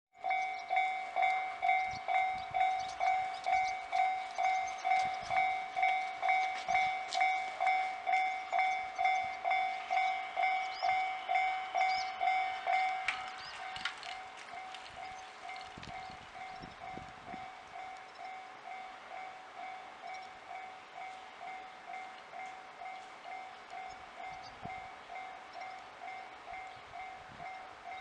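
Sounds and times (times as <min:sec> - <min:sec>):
level crossing warning bell: 0:00.2 - 0:28.0.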